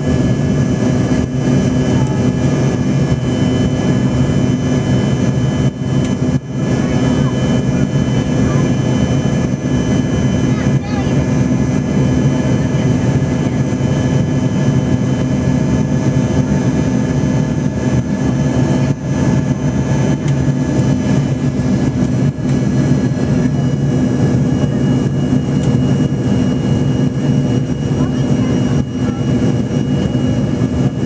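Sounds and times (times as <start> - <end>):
jet engines droning: 0.0 - 31.0.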